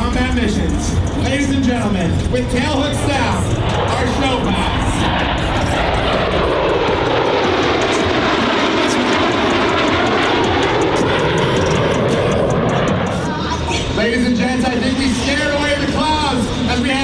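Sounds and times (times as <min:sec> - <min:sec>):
jet engines passing low: 0:00.0 - 0:17.0.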